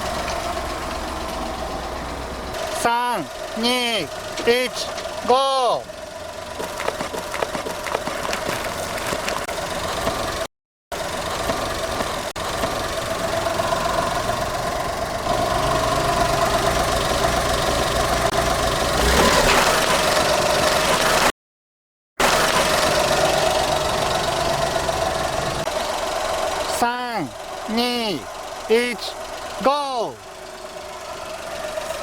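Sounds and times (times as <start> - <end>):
car engine running: 0.0 - 21.3, 22.2 - 32.0
deeper engine rumble: 0.0 - 21.3, 22.2 - 32.0.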